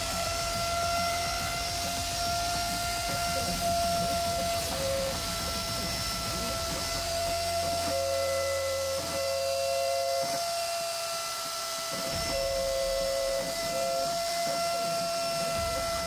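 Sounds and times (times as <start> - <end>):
router spindle whine: 0.0 - 16.0
stepper motors whirring: 0.0 - 16.0.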